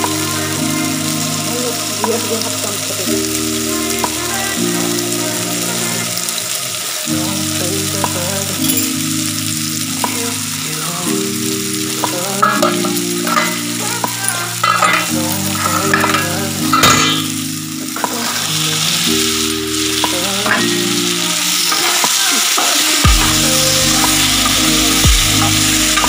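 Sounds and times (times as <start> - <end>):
food frying in a pan: 0.0 - 26.0
soft background music: 0.0 - 26.0.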